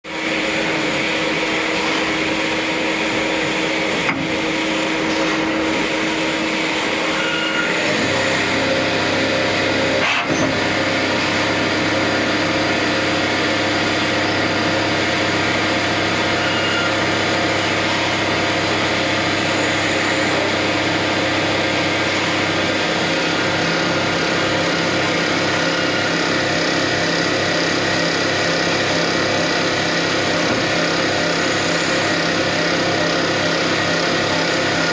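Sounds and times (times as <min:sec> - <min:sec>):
lathe machining: 0:00.1 - 0:34.9.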